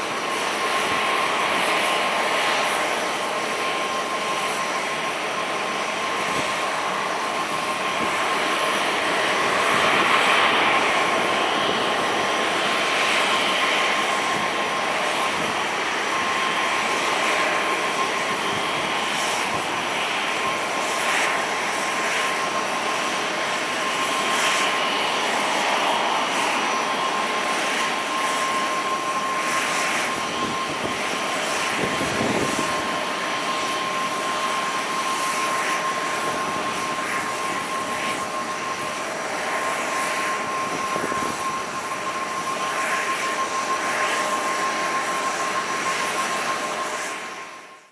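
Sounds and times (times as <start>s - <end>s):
jet engines at taxi power: 0.0s - 47.9s.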